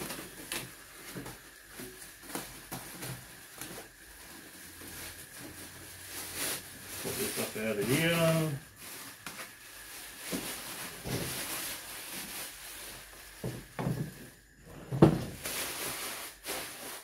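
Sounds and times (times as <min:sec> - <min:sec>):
plastic bag crinkling: 0:00.0 - 0:14.4, 0:15.2 - 0:17.0.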